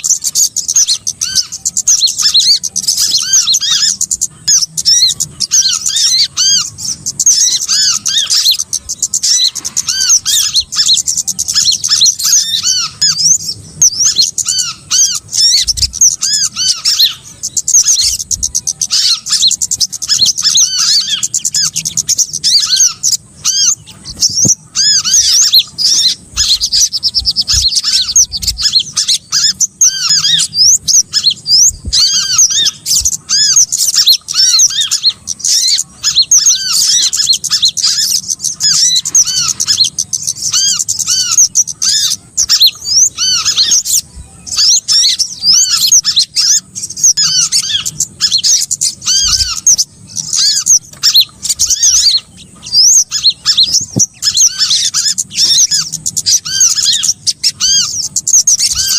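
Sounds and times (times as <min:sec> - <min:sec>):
chorus of small birds calling: 0:00.0 - 0:58.9.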